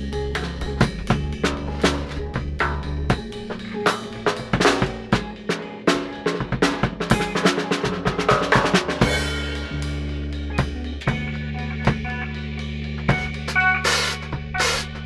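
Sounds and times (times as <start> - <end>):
drum kit playing: 0.0 - 15.0.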